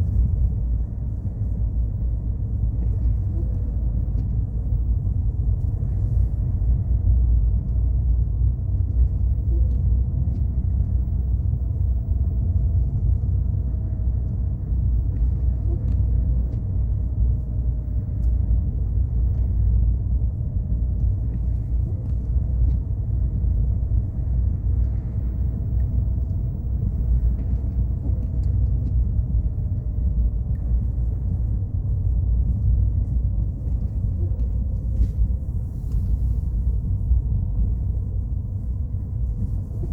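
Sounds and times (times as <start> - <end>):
car engine and road noise: 0.0 - 39.9
faint steady whine: 0.0 - 39.9.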